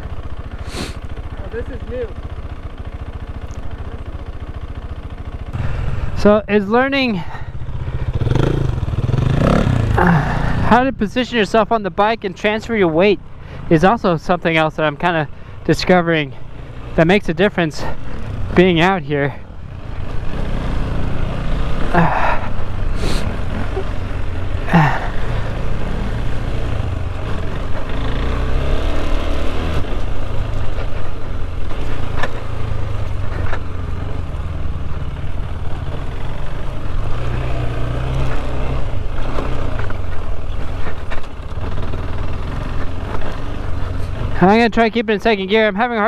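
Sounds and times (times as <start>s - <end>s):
motorcycle engine revving: 0.0s - 44.8s.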